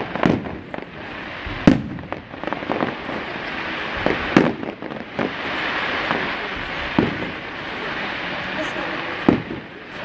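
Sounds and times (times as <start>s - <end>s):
crackling hiss: 0.0s - 10.0s
fireworks bangs: 0.0s - 10.0s.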